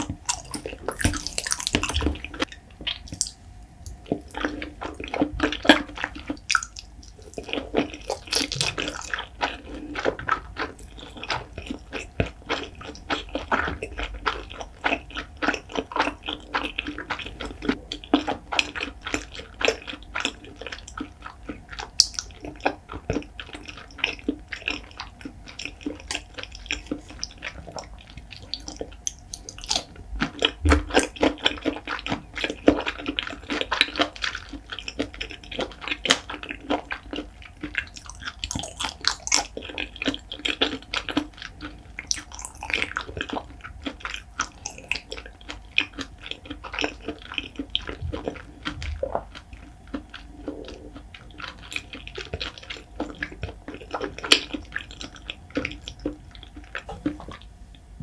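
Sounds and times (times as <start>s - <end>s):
wet chewing and lip smacking: 0.0s - 57.8s.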